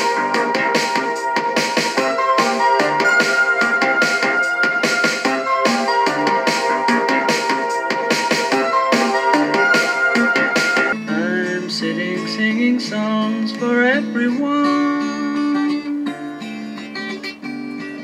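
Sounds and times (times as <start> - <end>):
guitar pop music from small speakers: 0.0 - 18.0.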